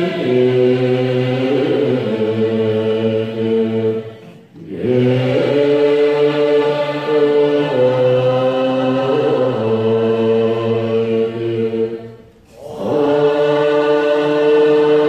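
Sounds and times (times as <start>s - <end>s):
monks chanting in unison: 0.0s - 15.0s.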